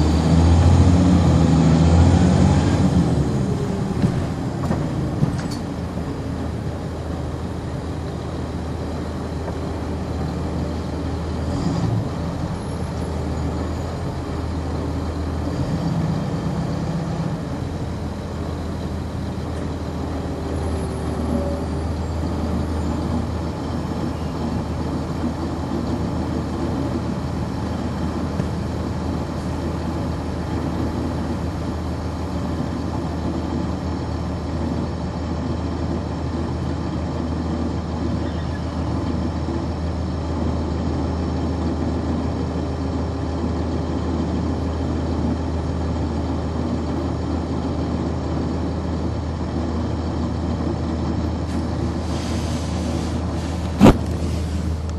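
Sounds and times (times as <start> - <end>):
bus engine droning: 0.0 - 54.9.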